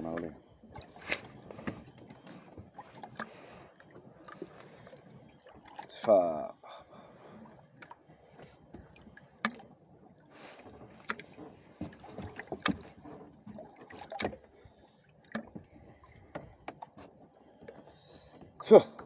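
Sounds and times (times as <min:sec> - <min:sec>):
water lapping against a boat: 0:00.0 - 0:19.0.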